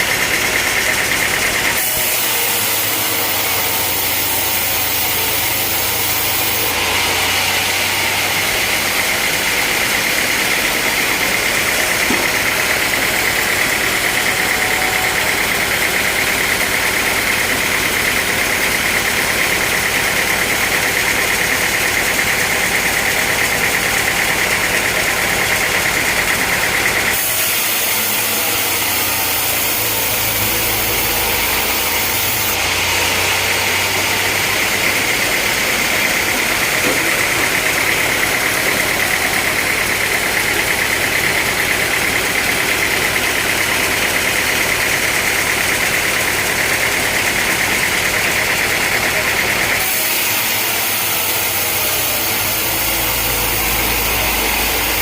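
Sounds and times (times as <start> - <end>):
high saw whine: 0.0 - 55.0
sawmill engine hum: 0.0 - 55.0.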